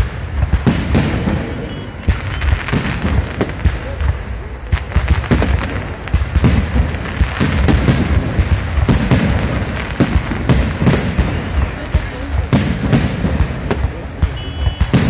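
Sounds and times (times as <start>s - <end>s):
fireworks bangs and booms: 0.0s - 15.0s.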